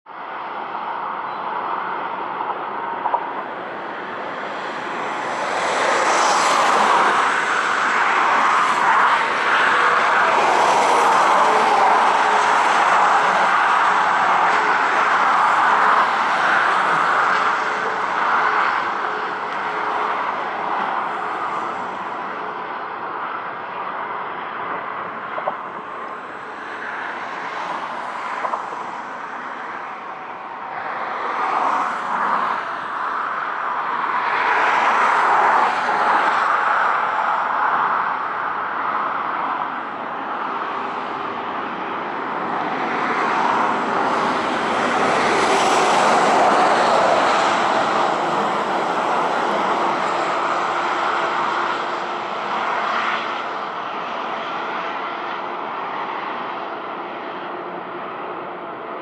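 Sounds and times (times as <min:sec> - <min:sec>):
passing traffic rushing: 0:00.2 - 0:59.0.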